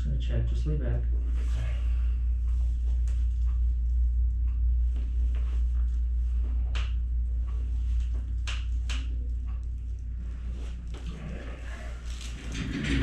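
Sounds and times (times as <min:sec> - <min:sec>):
low room rumble: 0:00.0 - 0:13.0.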